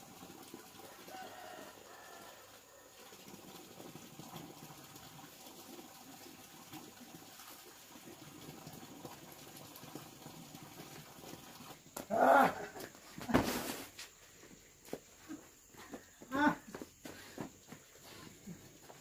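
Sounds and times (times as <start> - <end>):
faint running water: 0.0 - 13.2, 14.1 - 19.0.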